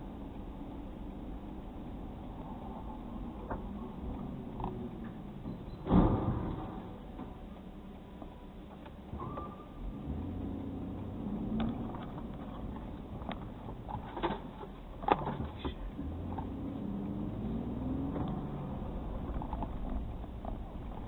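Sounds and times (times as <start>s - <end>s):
car engine accelerating: 0.0s - 21.0s
road noise: 0.0s - 21.0s.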